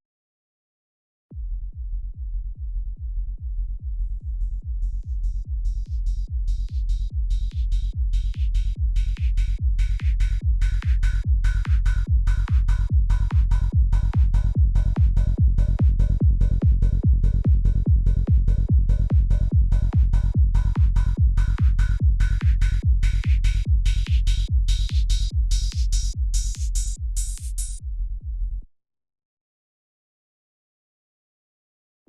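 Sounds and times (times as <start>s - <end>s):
electronic kick and bass pattern: 1.4s - 28.6s.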